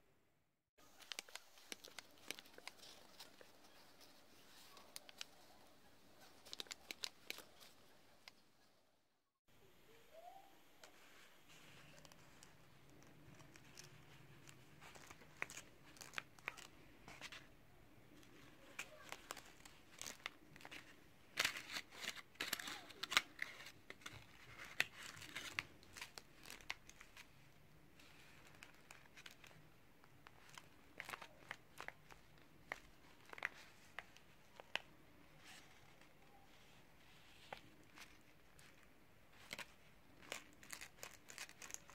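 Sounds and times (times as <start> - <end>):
paper crinkling: 0.8 - 8.4, 10.8 - 41.9.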